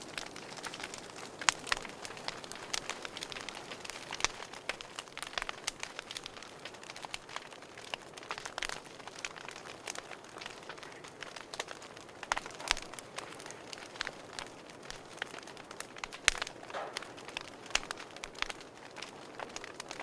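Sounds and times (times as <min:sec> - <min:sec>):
wood fire crackling in a fireplace: 0:00.0 - 0:20.0.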